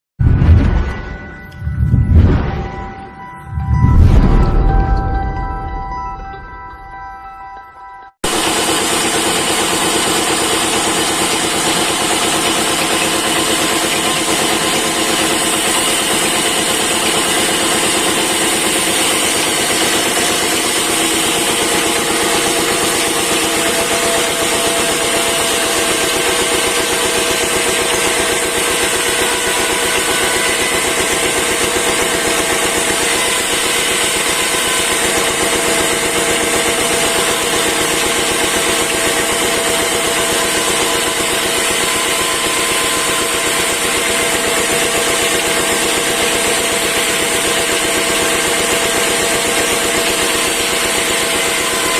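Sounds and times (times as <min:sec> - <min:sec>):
wood-cutting machine motor: 0:08.2 - 0:51.9.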